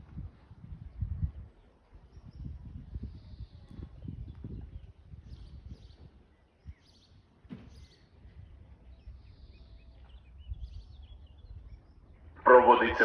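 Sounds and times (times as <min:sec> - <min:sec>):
birds chirping: 0:01.6 - 0:13.0.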